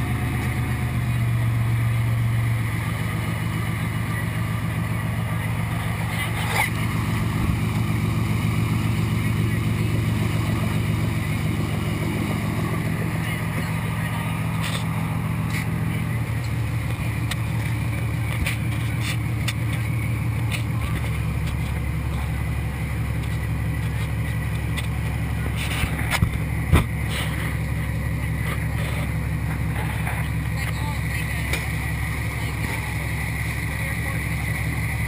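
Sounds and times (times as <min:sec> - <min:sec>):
motor boat engine drone: 0:00.0 - 0:35.0
wind: 0:00.0 - 0:35.0.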